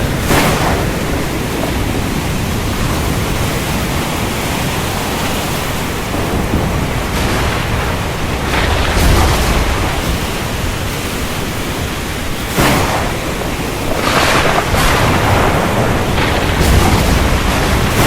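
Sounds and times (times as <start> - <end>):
heavy rain hissing: 0.0 - 18.0
low thunder rumble: 0.0 - 18.0.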